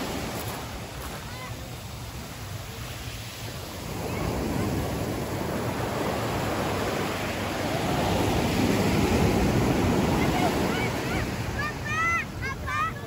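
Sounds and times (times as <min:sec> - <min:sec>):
waves washing up a sandy shore: 0:00.0 - 0:13.0.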